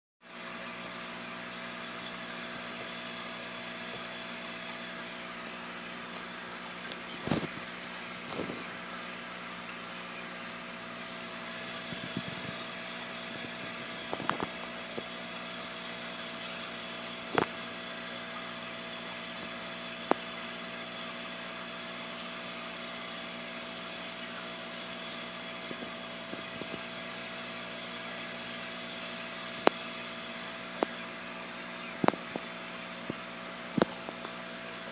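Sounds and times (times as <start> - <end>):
aquarium pump humming: 0.2 - 34.9.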